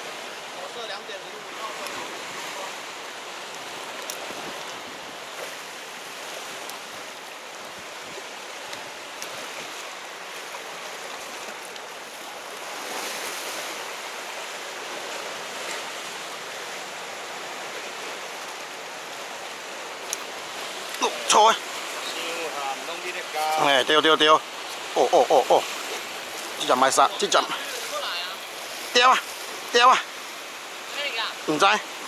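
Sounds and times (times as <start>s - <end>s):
sea surf on rocky shore: 0.0s - 32.0s.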